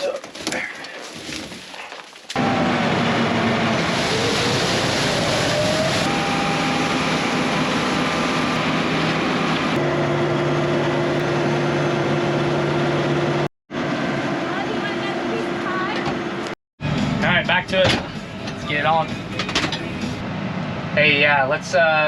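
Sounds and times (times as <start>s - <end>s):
heavy farm machinery running: 2.4s - 20.5s.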